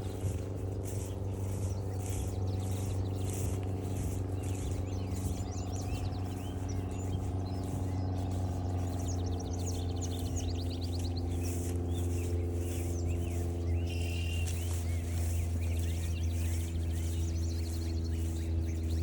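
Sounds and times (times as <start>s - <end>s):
low engine-like hum: 0.0s - 19.0s
songbirds singing: 0.0s - 19.0s.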